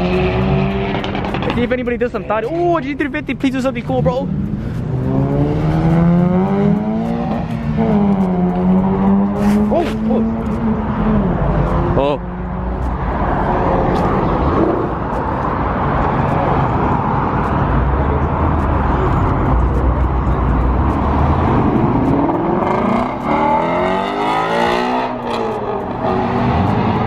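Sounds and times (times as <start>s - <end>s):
car engine rumbling and revving: 0.0s - 27.0s.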